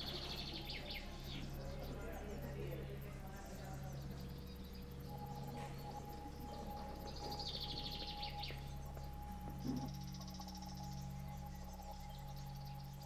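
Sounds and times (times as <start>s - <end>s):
faint steady tone: 0.0s - 13.0s
low hum: 0.0s - 13.0s.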